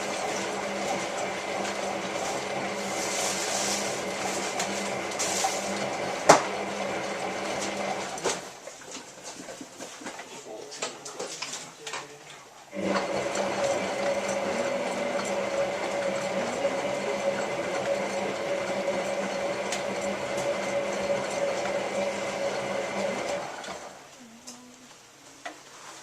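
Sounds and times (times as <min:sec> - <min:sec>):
washing machine motor whining: 0:00.0 - 0:08.7, 0:12.7 - 0:24.9.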